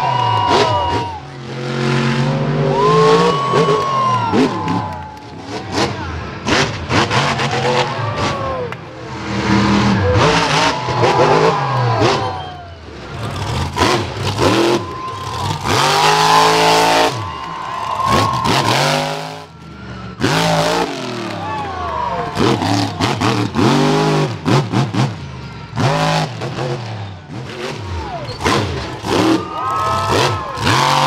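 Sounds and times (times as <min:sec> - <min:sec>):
monster truck engines revving: 0:00.0 - 0:31.0.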